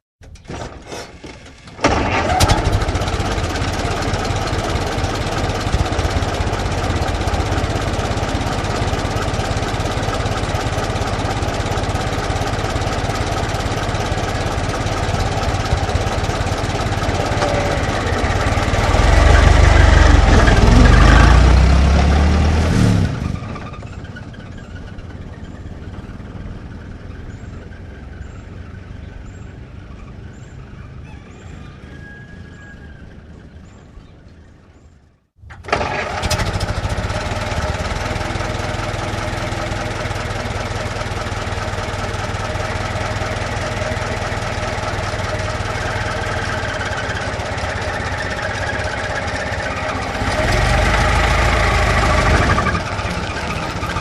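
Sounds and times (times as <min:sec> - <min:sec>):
old car engine revving: 0:01.6 - 0:29.8, 0:35.5 - 0:54.0.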